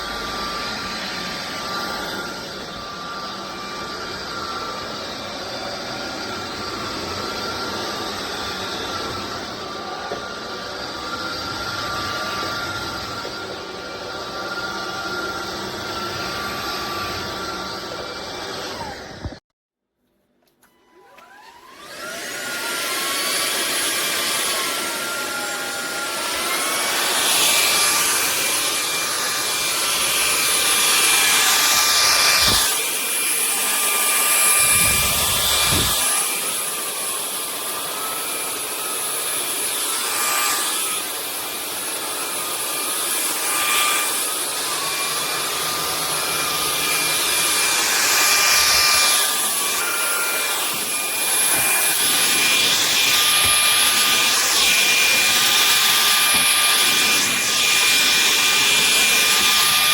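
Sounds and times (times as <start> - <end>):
stick vacuum motor whine: 0.0 - 19.4, 20.6 - 59.9.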